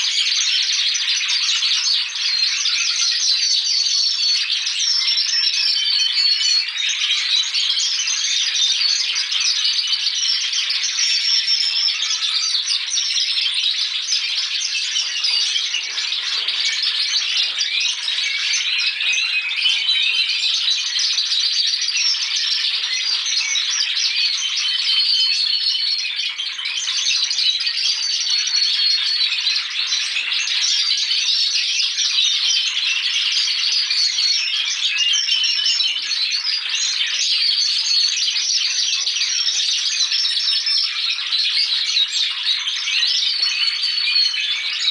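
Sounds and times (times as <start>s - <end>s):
canaries singing in chorus: 0.0s - 44.9s.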